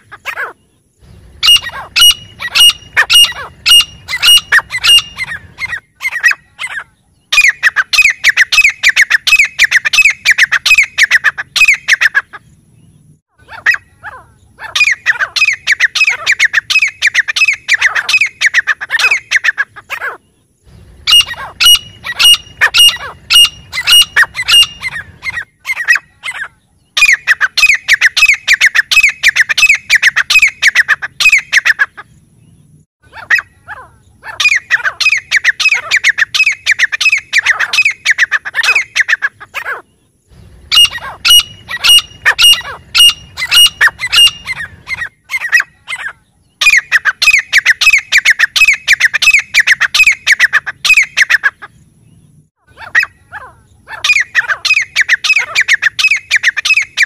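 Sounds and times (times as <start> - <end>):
francolins calling harshly: 0.0 - 12.6, 13.3 - 32.2, 33.0 - 57.0.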